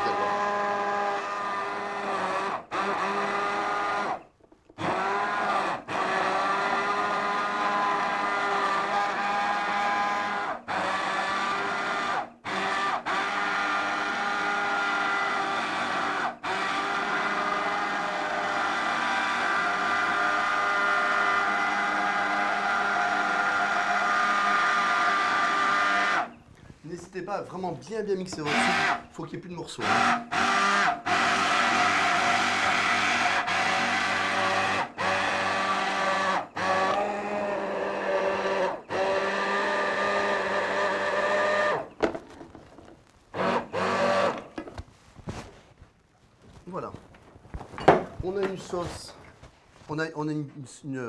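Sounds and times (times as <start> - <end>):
immersion blender whirring: 0.0 - 26.4, 28.3 - 29.1, 29.8 - 42.2, 43.3 - 44.8.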